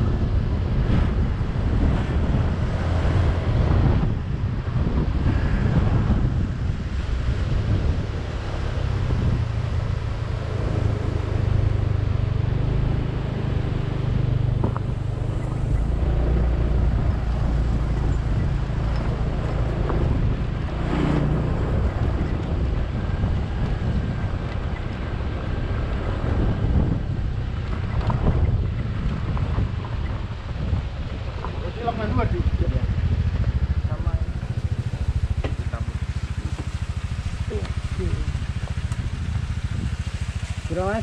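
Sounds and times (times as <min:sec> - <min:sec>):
motorbike engine hum: 0:00.0 - 0:41.0
wind buffeting microphone: 0:00.0 - 0:41.0.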